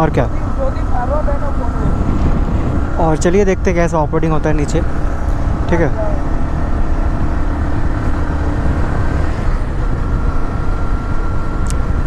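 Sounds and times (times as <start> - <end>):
motorcycle engine running: 0.0 - 12.0
wind noise on microphone: 0.4 - 3.8, 4.8 - 12.0.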